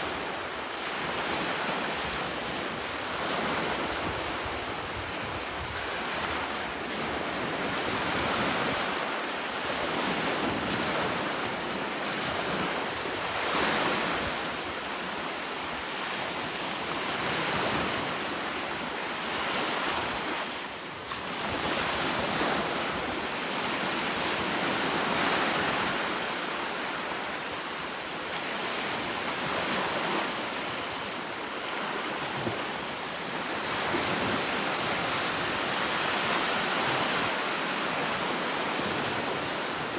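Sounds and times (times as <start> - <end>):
sea waves on a shore: 0.0 - 39.9.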